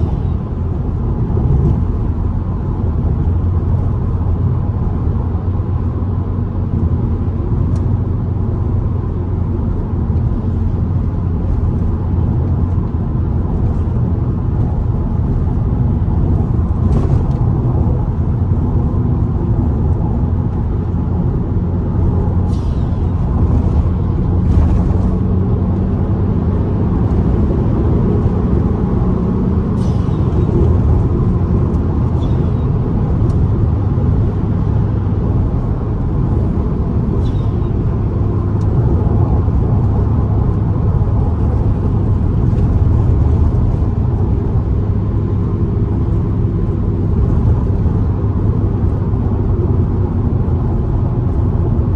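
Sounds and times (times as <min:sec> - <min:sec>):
car engine drone: 0:00.0 - 0:51.9
tyre and road noise: 0:00.0 - 0:51.9.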